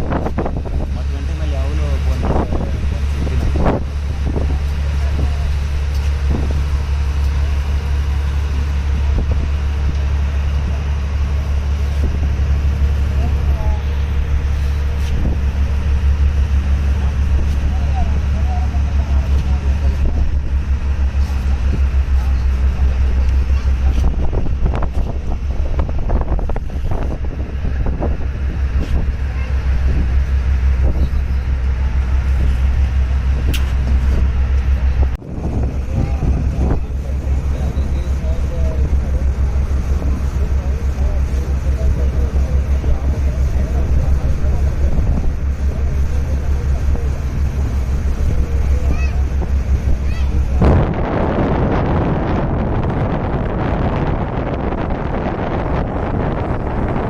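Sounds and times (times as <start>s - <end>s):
faint voices: 0.0s - 57.0s
heavy machinery engine drone: 0.0s - 57.0s.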